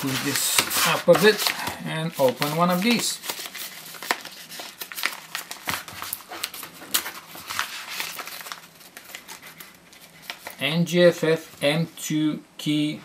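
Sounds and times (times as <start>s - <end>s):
padded paper mailer crinkling: 0.0s - 10.6s.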